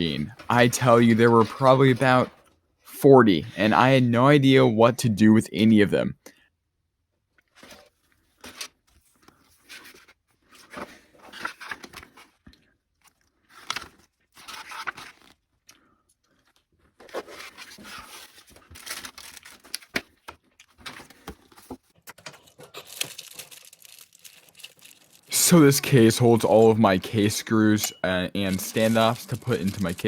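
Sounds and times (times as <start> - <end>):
hands handling computer parts: 0.3 - 2.6, 7.4 - 30.0.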